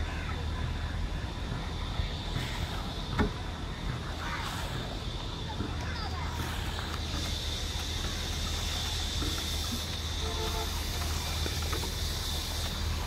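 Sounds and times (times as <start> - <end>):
machine drone with high whine: 0.0 - 13.0.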